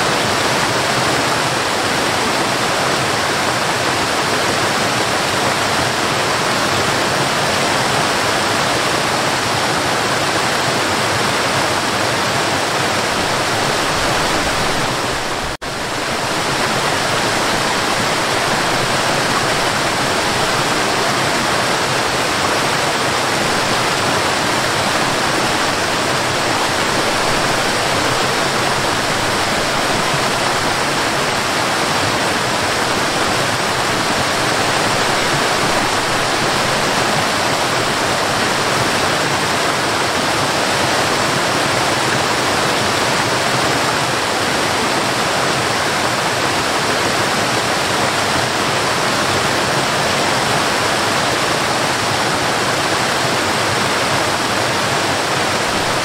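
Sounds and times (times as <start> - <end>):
waterfall rushing over rocks: 0.0 - 56.0.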